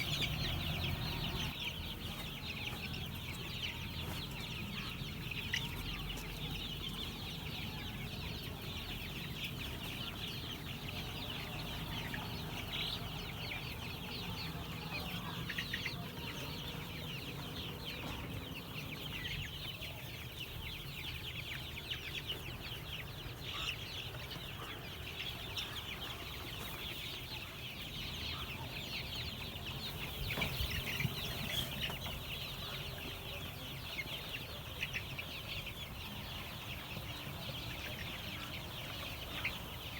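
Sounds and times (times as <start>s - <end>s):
chicks peeping and chirping: 0.0s - 39.9s.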